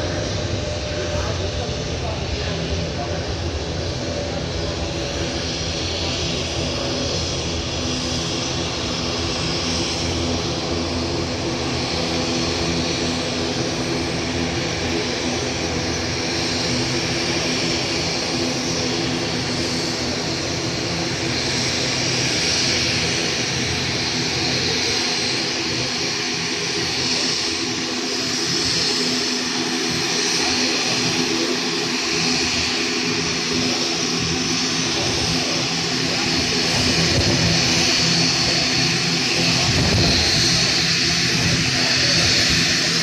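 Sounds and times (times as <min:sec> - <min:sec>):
distant jet engine noise: 0:00.0 - 0:43.0
turboprop engines droning: 0:00.0 - 0:43.0.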